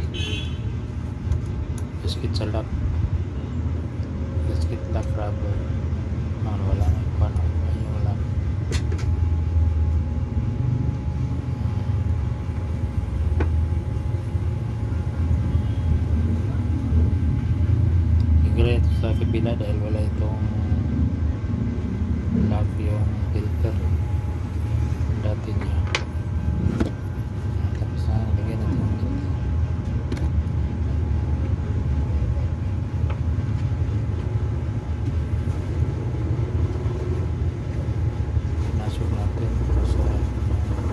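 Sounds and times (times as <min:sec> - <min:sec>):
low rumble with hum: 0:00.0 - 0:40.9.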